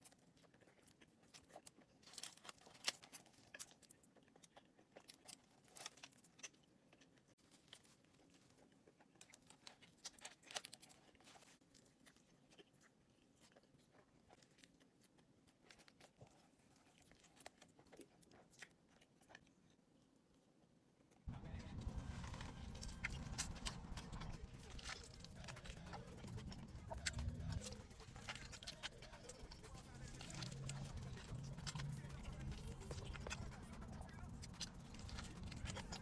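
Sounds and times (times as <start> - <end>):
biting and chewing food: 0.0 - 36.0.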